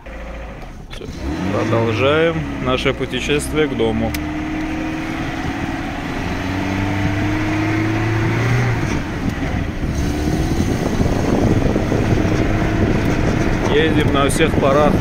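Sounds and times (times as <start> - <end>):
car engine on dirt track: 0.0 - 15.0.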